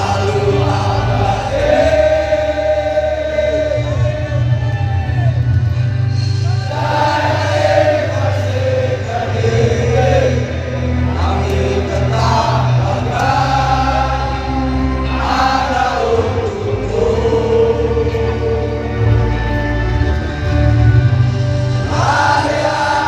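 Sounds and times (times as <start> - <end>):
crowd singing an anthem: 0.0 - 23.0.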